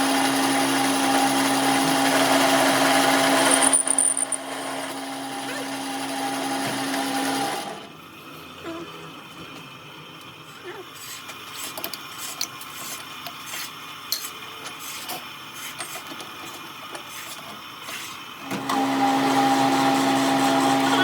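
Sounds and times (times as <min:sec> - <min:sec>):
shop machine humming: 0:00.0 - 0:13.4, 0:17.2 - 0:21.0.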